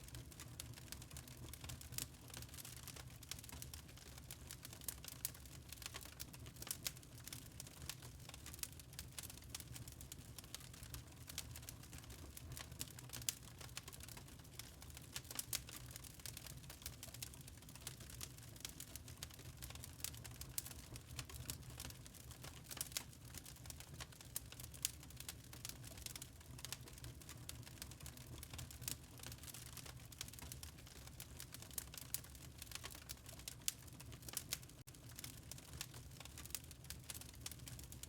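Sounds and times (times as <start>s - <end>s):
log fire crackling: 0.0s - 38.0s.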